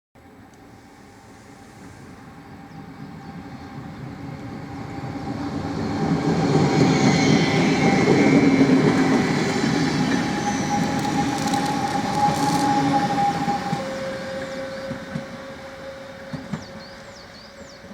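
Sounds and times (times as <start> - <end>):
electric train passing: 0.2 - 17.9.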